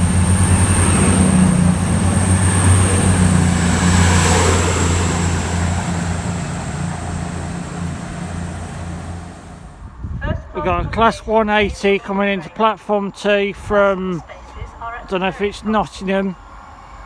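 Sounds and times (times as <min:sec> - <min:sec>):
rail and wheel noise: 0:00.0 - 0:17.0
train diesel engines humming: 0:00.0 - 0:17.0.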